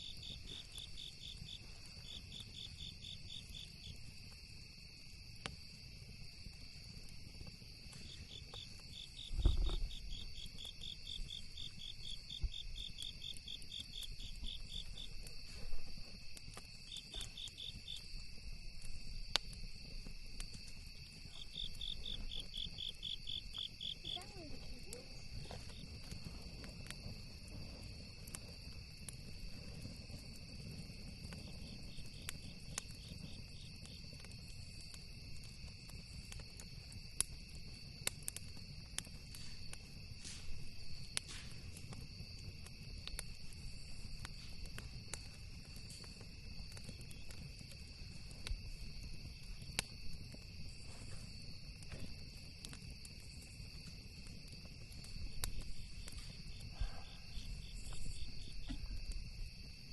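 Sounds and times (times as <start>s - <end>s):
campfire crackling: 0.0s - 59.9s
crickets trilling: 0.0s - 59.9s.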